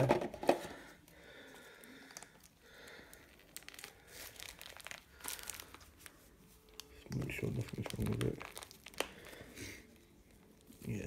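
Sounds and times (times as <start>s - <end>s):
plastic packaging rustling: 0.0s - 11.0s.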